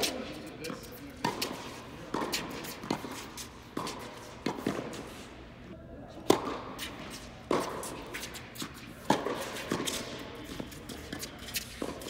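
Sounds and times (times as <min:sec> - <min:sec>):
tennis rackets striking balls: 0:00.0 - 0:05.3, 0:06.2 - 0:12.0.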